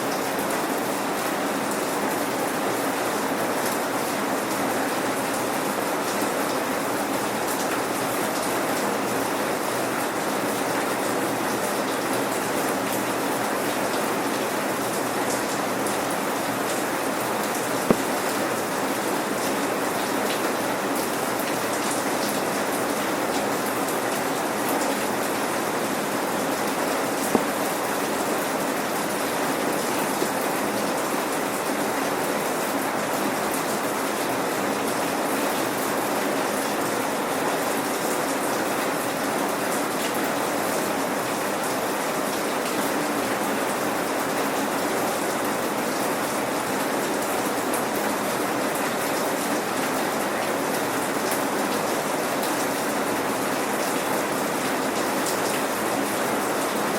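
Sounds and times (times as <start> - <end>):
light rain pattering: 0.1 - 56.9.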